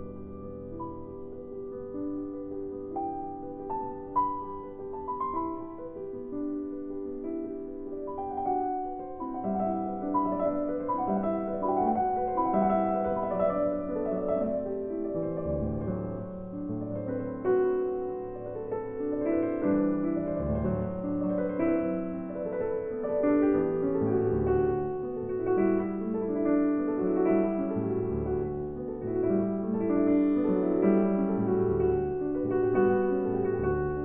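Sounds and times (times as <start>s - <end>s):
slow gentle piano music: 0.0s - 34.0s.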